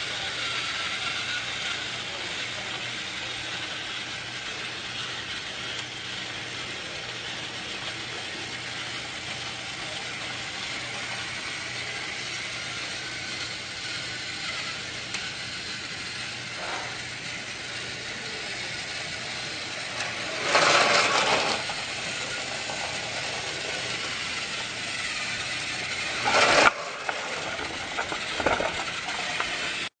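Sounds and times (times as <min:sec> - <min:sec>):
small motor humming: 0:00.0 - 0:30.0.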